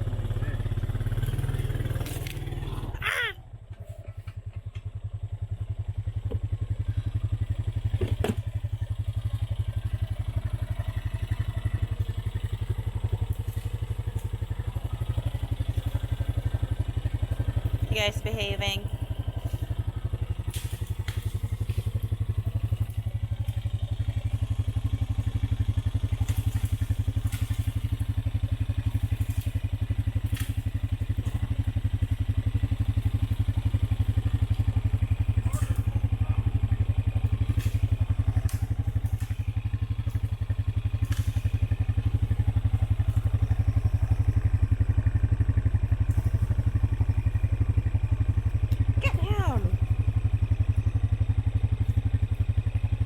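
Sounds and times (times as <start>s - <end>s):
four-wheeler engine running: 0.0s - 53.0s
knocks and clatter over rough trail: 0.0s - 53.0s.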